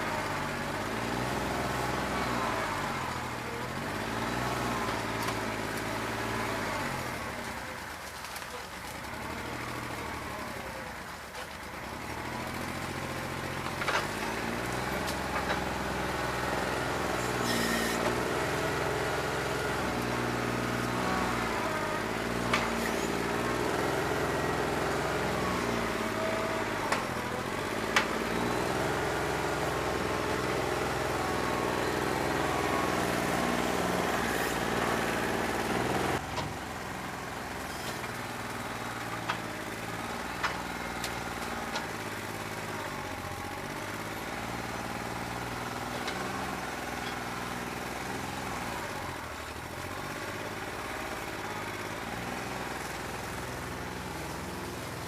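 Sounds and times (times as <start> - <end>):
diesel tractor engine running rough: 0.0 - 55.0
engine clanks: 0.0 - 55.0.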